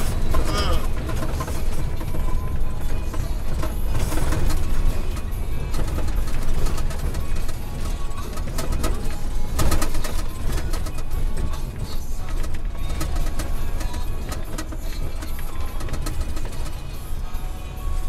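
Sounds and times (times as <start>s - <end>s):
vehicle rattling over cobblestones: 0.0s - 18.0s.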